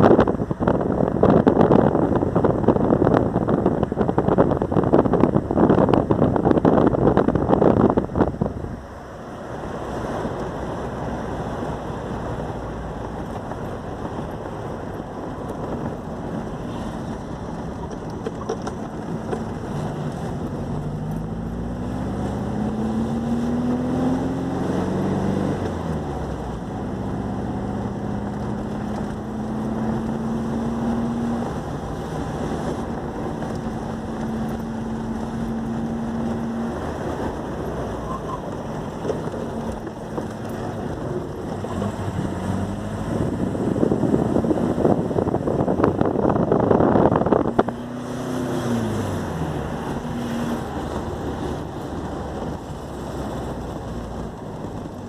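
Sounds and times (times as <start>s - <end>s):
car engine running: 0.0s - 55.0s
road and wind noise: 0.0s - 55.0s.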